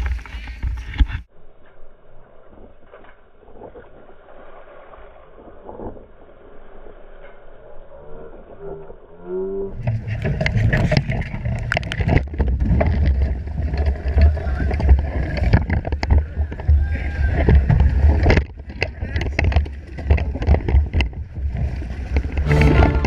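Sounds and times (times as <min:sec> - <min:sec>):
crackling spray and water: 0:00.0 - 0:08.6, 0:09.8 - 0:23.0.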